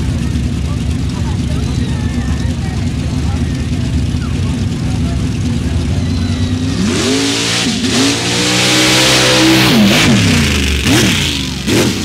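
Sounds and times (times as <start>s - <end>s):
truck engine revving hard: 1.0s - 12.0s.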